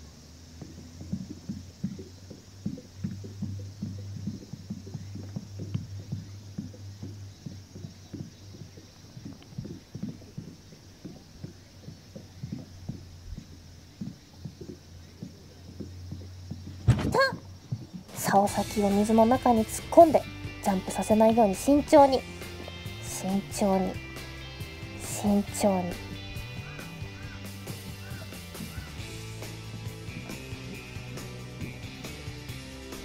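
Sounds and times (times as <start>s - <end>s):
soft low knocks: 0.0s - 24.0s, 25.0s - 33.0s
steady low hum: 0.0s - 33.0s.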